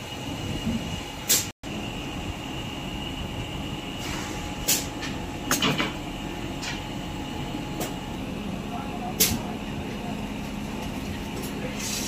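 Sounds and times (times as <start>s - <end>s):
factory background noise: 0.0s - 12.0s.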